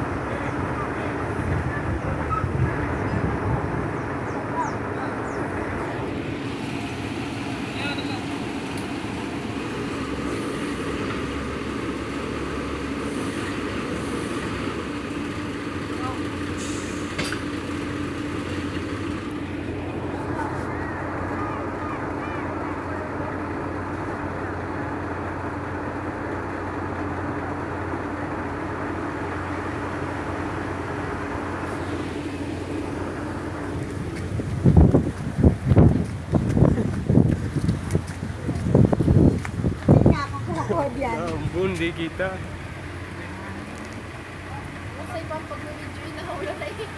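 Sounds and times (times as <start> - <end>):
crane engine humming and rumbling: 0.0 - 46.9.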